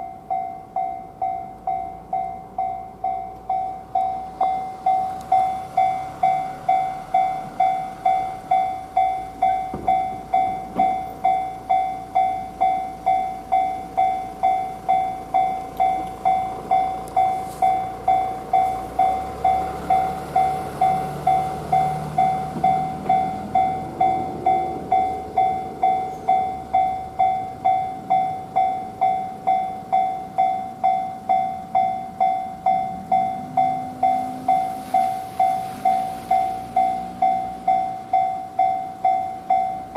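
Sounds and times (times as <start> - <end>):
level crossing alarm bell: 0.0 - 39.9.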